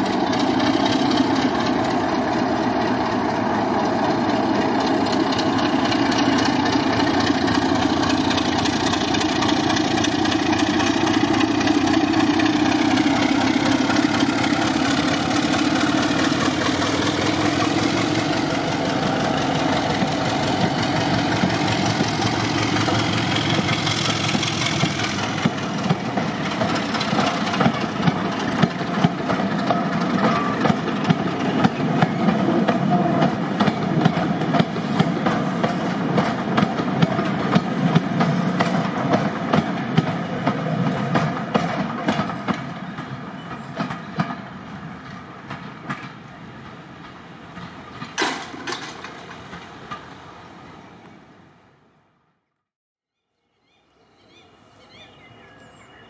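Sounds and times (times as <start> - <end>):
train wheels clicking over rail joints: 0.0 - 51.3
diesel locomotive engine running: 0.0 - 52.1.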